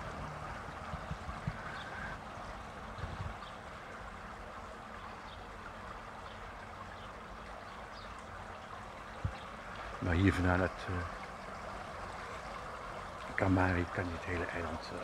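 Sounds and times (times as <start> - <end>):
trickling water: 0.0 - 15.0.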